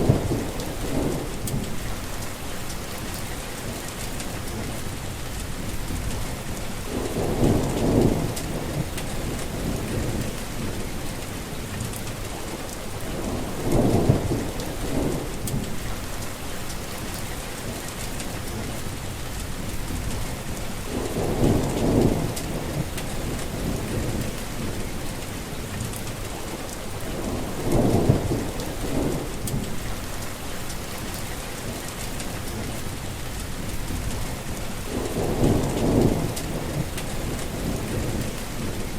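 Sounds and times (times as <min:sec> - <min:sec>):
heavy rain falling: 0:00.0 - 0:38.9
low rumble of thunder: 0:00.0 - 0:38.9.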